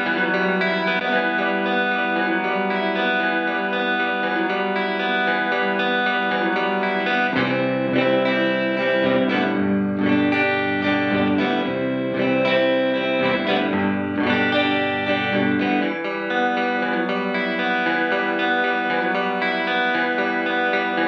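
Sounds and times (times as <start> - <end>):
electric guitar with reverb: 0.0 - 21.0.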